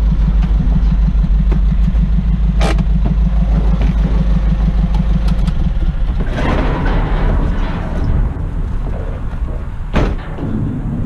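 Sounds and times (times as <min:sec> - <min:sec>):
truck engine throbbing: 0:00.0 - 0:11.0.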